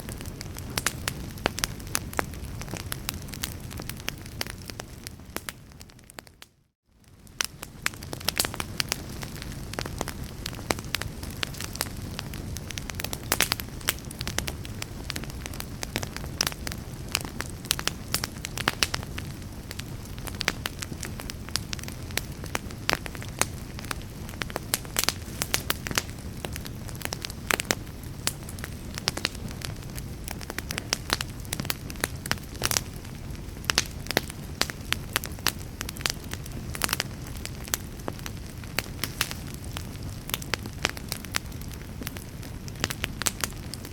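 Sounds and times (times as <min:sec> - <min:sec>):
burning logs crackling and popping: 0:00.0 - 0:43.9
low rumble of flames: 0:00.0 - 0:43.9.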